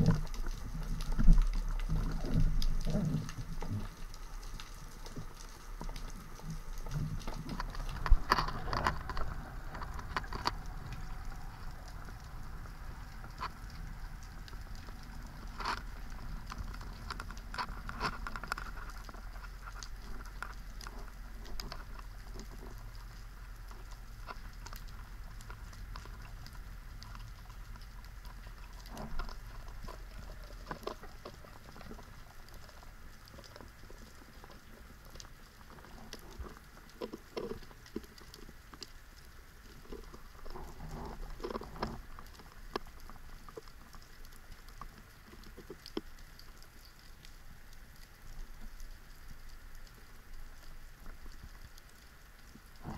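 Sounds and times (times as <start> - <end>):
underwater clicks and crackles: 0.0 - 52.9.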